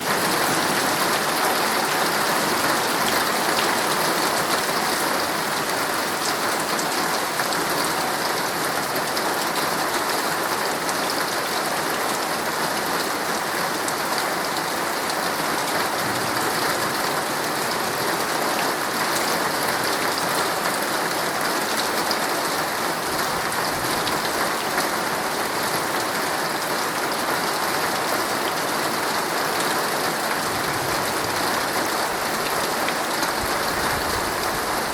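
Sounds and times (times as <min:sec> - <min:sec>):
heavy rain on tent fabric: 0:00.0 - 0:34.9.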